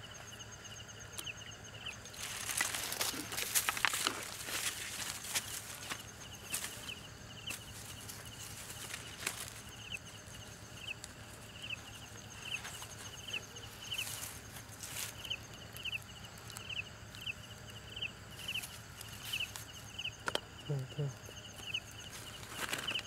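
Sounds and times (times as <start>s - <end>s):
insect chirping: 0.0s - 23.0s
dry leaves rustling: 2.0s - 20.0s, 21.3s - 23.0s.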